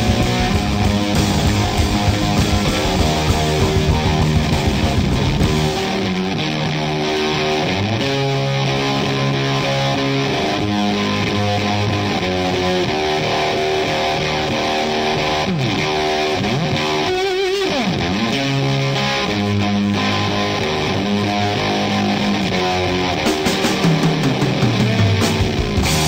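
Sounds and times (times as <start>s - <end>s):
rock music with electric guitar: 0.0s - 26.0s.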